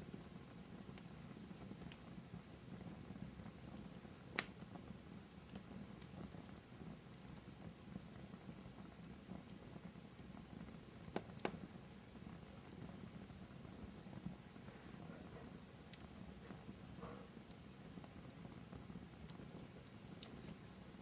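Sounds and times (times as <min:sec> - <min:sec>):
fire crackles and pops: 0:00.0 - 0:21.0
fire rustling: 0:00.0 - 0:21.0.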